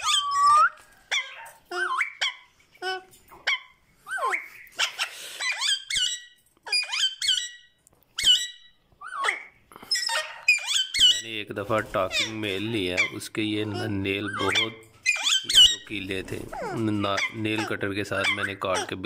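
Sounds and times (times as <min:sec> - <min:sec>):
parakeets squawking: 0:00.0 - 0:19.0.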